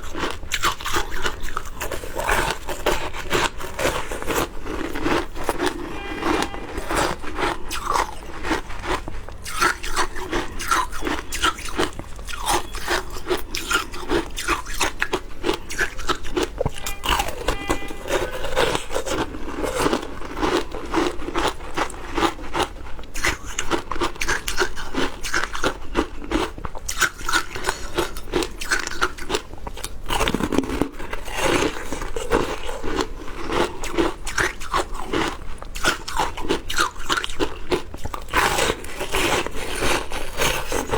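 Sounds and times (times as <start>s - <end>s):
crunching of frozen ice chewed: 0.0s - 40.9s.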